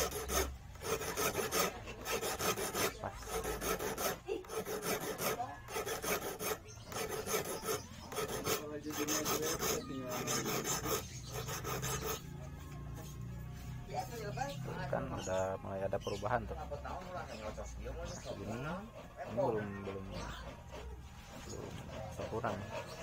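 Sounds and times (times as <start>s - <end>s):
hand file rasping on steel: 0.0s - 13.2s, 15.1s - 23.0s.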